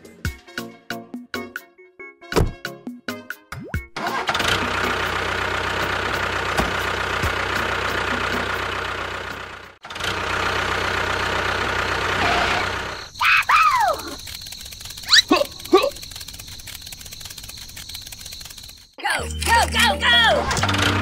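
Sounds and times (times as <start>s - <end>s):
tractor engine running: 4.0s - 21.0s.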